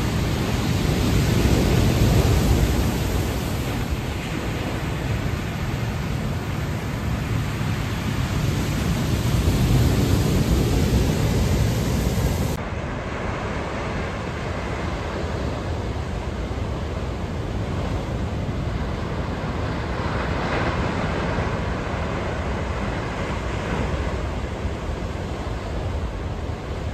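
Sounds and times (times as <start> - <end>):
surf crashing: 0.0 - 26.9
wind rumbling on microphone: 0.0 - 26.9.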